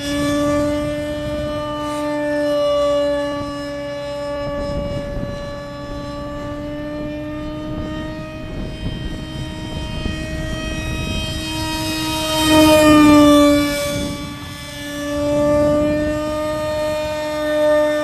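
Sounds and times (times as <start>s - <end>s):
model jet motor whining: 0.0s - 18.0s
wind rumbling on microphone: 0.0s - 18.0s.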